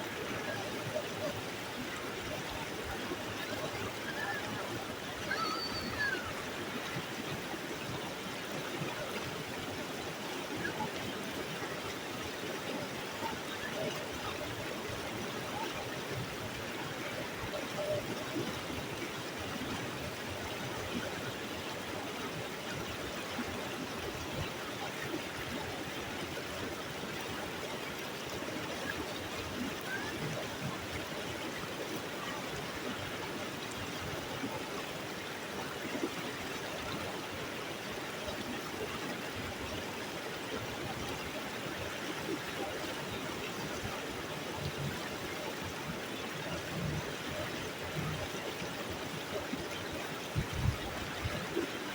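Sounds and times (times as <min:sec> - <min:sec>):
stream water flowing: 0:00.0 - 0:51.9.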